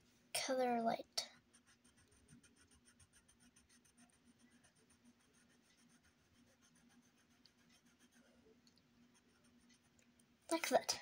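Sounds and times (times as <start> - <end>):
pencil scratching on paper: 1.2 - 10.1.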